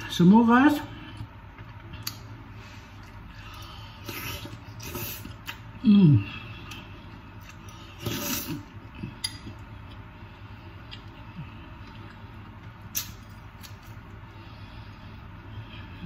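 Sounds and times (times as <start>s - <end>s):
person chewing: 1.1s - 15.0s.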